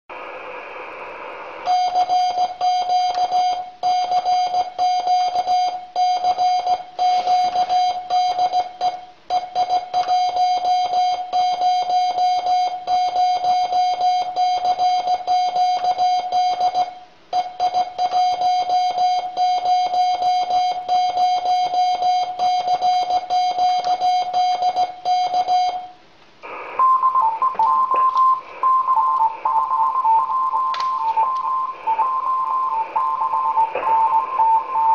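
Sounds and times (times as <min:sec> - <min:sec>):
morse code tone: 0:01.6 - 0:26.0, 0:26.7 - 0:34.9
higher-pitched morse code tone: 0:01.7 - 0:25.9, 0:26.8 - 0:34.9.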